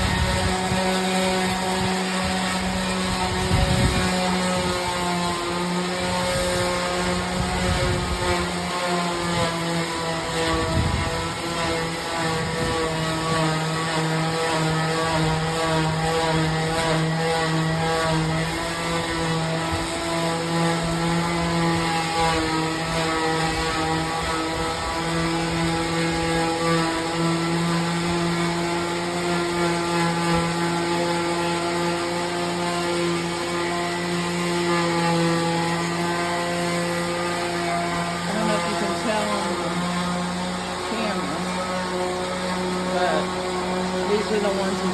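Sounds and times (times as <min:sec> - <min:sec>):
electric sander motor hum: 0:00.0 - 0:44.9.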